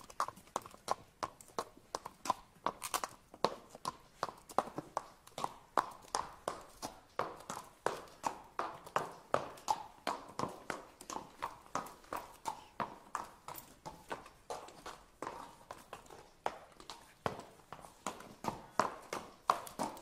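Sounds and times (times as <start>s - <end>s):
horse hooves clip-clopping: 0.0s - 20.0s.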